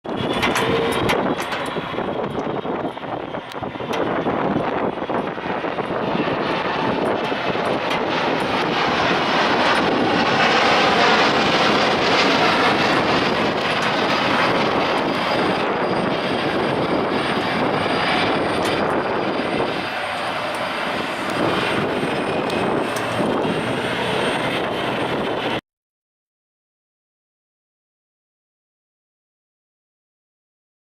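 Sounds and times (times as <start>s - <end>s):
jet engines roaring: 0.0s - 25.6s.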